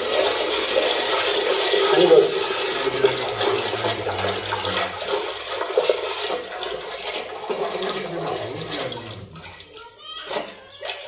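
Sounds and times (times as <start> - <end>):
water sloshing in metal pot: 0.0 - 11.0.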